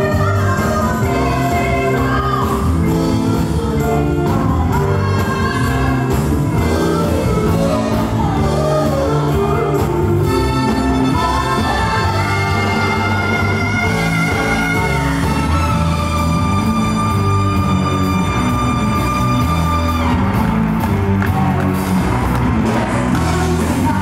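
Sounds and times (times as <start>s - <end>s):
live band music with singing: 0.0s - 24.0s.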